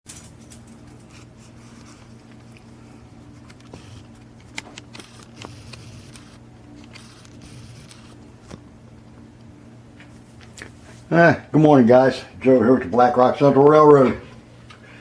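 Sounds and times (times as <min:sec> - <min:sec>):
low electrical hum: 0:00.1 - 0:15.0.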